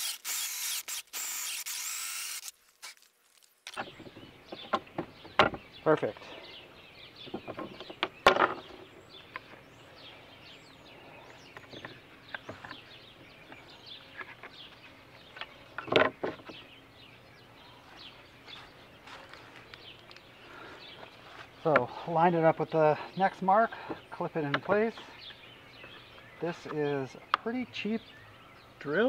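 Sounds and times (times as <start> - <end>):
birds chirping: 3.7 - 29.0.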